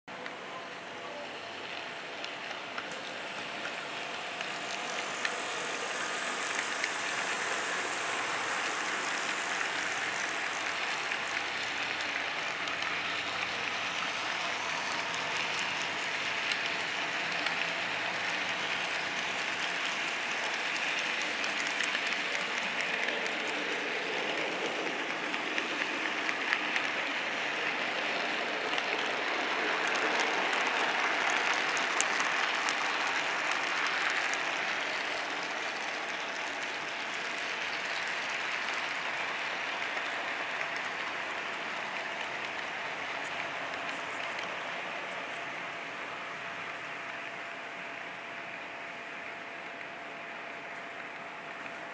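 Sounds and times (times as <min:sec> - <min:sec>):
model train cars rolling on track: 0:00.1 - 0:51.9.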